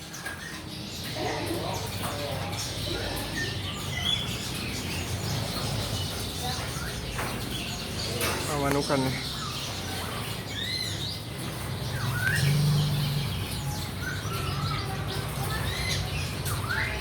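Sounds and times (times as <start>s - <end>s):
caged songbirds chirping: 0.0s - 17.0s.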